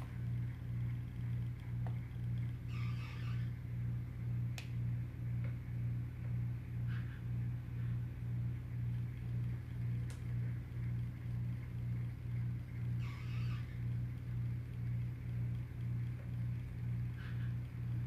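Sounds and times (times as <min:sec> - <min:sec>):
pulsing low mechanical hum: 0:00.0 - 0:18.0.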